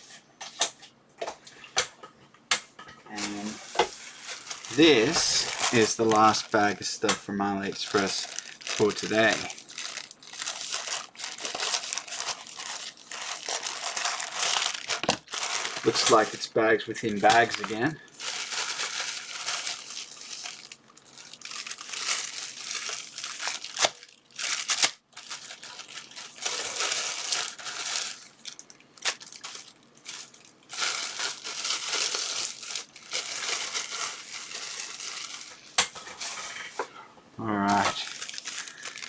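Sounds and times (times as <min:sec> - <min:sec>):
packaging bags crinkling: 0:03.1 - 0:36.5, 0:37.6 - 0:39.0.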